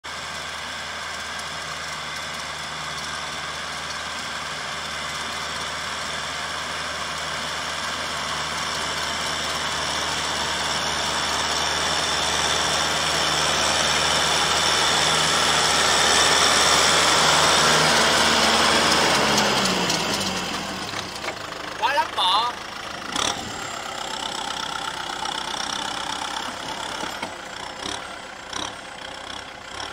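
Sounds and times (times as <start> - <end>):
tractor diesel engine running: 0.1 - 29.9.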